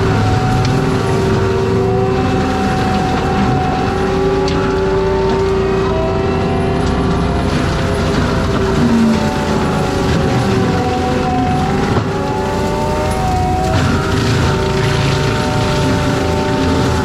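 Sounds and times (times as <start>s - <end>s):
high machine whine: 0.0s - 17.0s
track loader mulcher drone: 0.0s - 17.0s.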